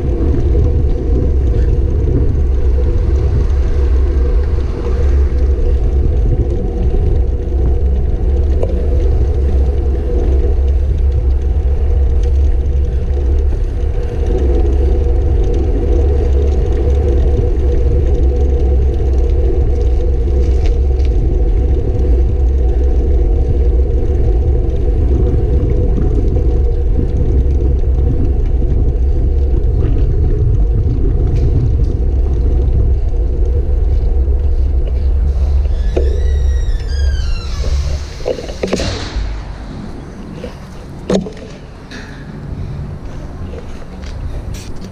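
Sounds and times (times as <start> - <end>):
wind and road noise rumble: 0.0 - 44.9.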